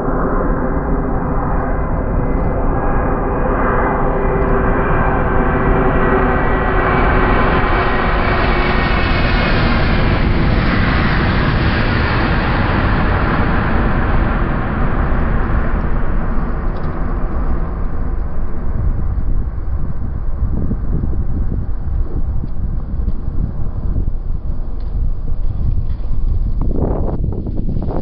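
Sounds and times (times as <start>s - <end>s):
jet engines passing overhead: 0.0s - 28.0s.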